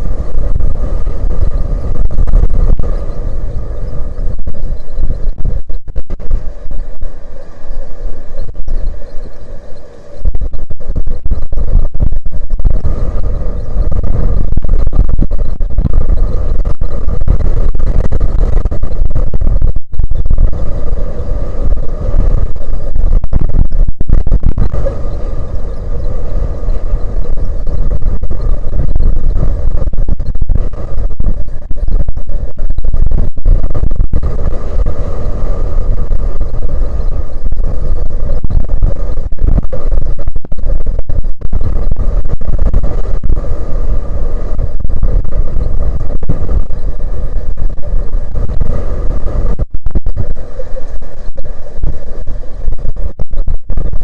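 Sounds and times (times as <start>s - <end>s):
faint steady hum: 0.0s - 54.0s
wind buffeting microphone: 0.0s - 54.0s.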